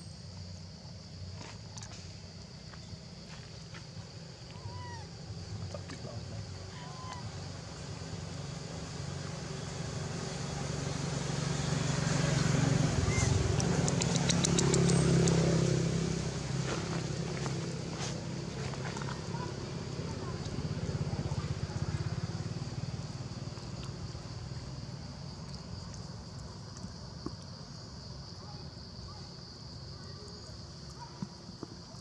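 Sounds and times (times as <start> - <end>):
low engine hum: 0.2 - 32.0.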